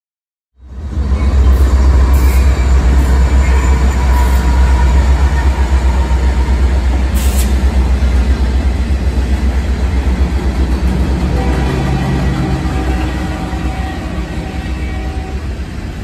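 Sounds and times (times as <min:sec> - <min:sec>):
freight train passing: 0:00.6 - 0:16.0.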